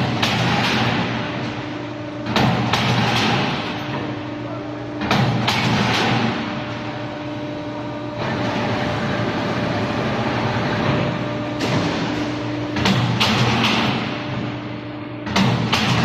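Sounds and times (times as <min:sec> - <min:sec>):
roll-forming machine motor hum: 0:00.0 - 0:16.0.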